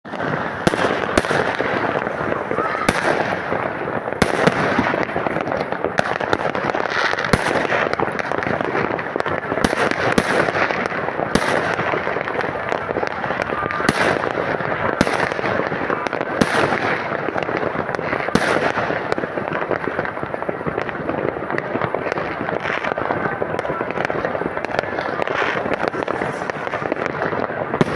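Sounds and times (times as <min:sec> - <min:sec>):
firecrackers crackling: 0:00.0 - 0:27.9
firework bangs: 0:00.0 - 0:27.9.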